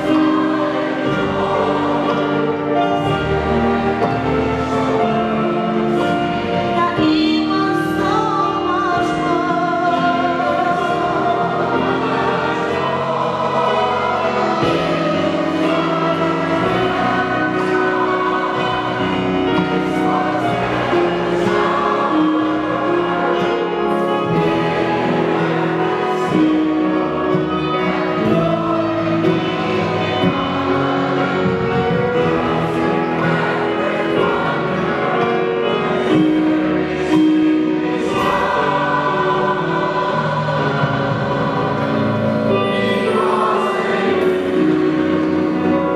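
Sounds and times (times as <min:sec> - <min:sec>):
choir singing: 0:00.0 - 0:45.9
instrumental accompaniment: 0:00.0 - 0:45.9.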